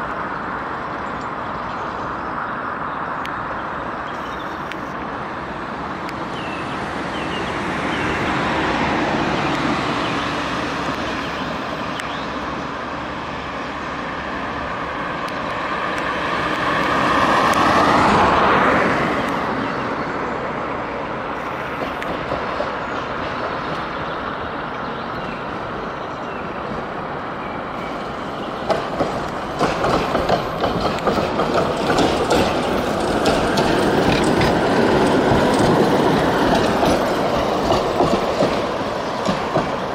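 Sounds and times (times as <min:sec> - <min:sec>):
street traffic: 0:00.0 - 0:39.9
tram wheels clacking on rails: 0:03.3 - 0:39.9.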